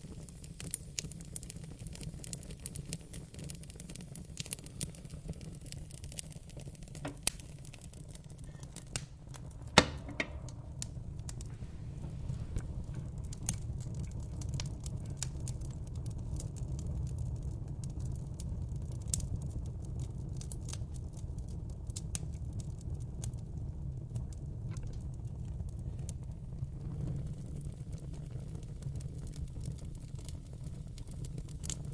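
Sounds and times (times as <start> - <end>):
low rumble of flames: 0.0 - 31.9
wood fire crackling and popping: 0.0 - 31.9.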